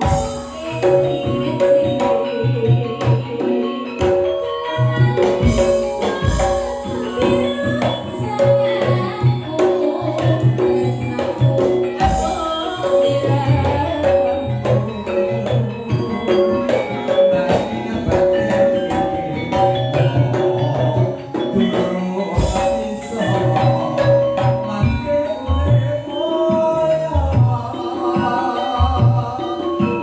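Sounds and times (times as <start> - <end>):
drums: 0.0 - 30.0
ensemble with mallet percussion: 0.0 - 30.0.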